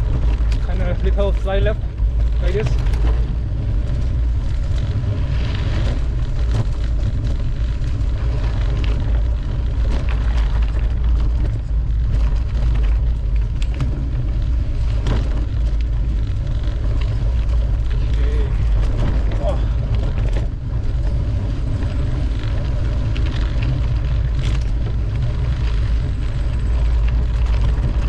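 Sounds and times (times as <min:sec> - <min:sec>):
bike clicks and rattles: 0:00.0 - 0:28.0
mountain bike rolling on dirt: 0:00.0 - 0:28.0
wind rumble on microphone: 0:00.0 - 0:28.0.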